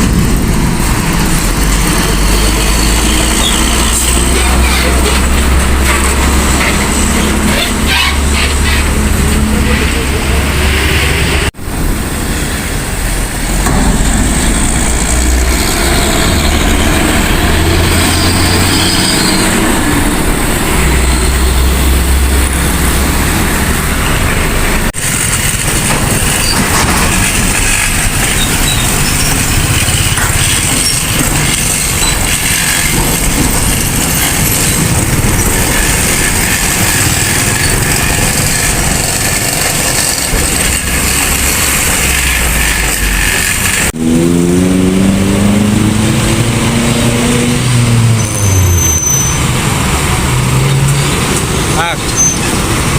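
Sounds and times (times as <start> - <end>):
road noise: 0.0 - 52.9
truck diesel engines rumbling: 0.0 - 52.9.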